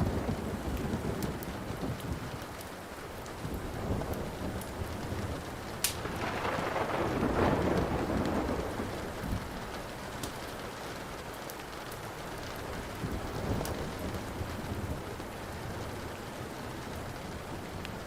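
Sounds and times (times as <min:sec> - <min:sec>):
thunderclap and rumble: 0:00.0 - 0:11.1, 0:12.4 - 0:18.0
steady rain: 0:00.0 - 0:18.0
wood fire crackling: 0:00.0 - 0:18.0.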